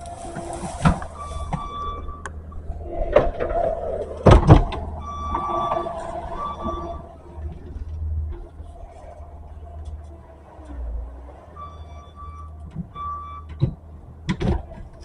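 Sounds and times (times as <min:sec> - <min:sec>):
loader engine running: 0:00.0 - 0:15.0
mechanical whine: 0:00.0 - 0:15.0.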